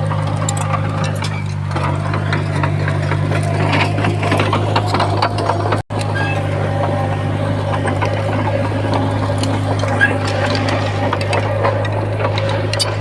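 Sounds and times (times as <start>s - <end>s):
heavy machine engine running: 0.0s - 13.0s
metallic clanking and rattling: 0.0s - 13.0s.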